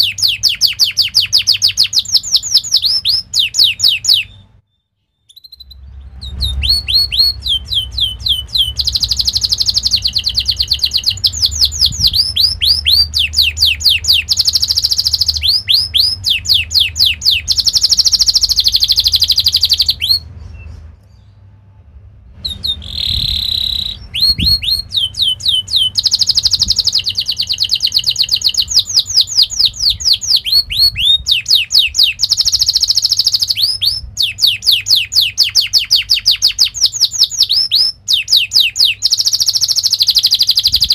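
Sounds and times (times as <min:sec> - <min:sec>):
canary singing trills: 0:00.0 - 0:21.5, 0:22.4 - 0:40.9.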